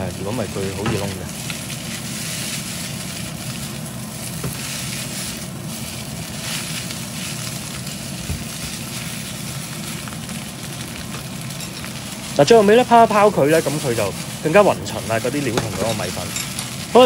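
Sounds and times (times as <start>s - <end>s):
noodles sizzling in a wok: 0.0s - 17.0s.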